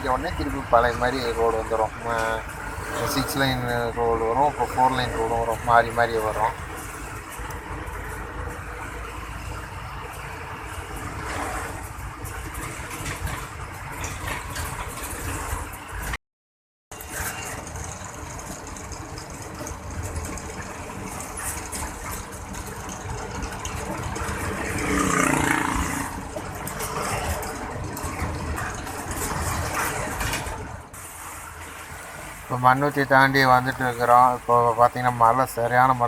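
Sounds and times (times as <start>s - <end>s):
lorry engine running: 0.0s - 16.1s, 17.0s - 36.0s
road noise in cab: 0.0s - 16.2s, 16.9s - 36.0s.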